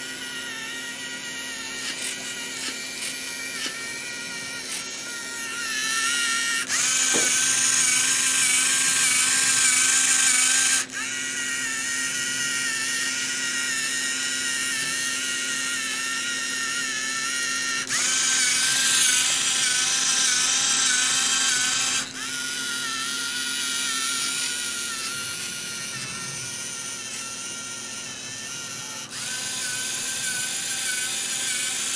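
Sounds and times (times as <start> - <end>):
servo motors whining: 0.0 - 31.9.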